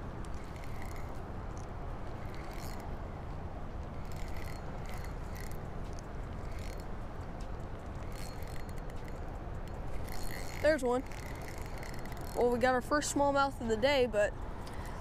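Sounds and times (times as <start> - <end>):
steady low rumble: 0.0 - 15.0
fishing reel whirring: 0.1 - 13.3.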